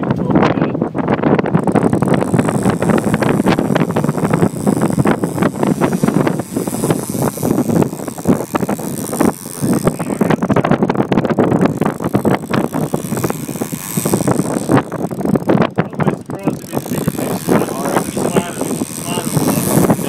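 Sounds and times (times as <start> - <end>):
wind buffeting microphone: 0.0 - 20.0
boat engine running: 0.9 - 20.0.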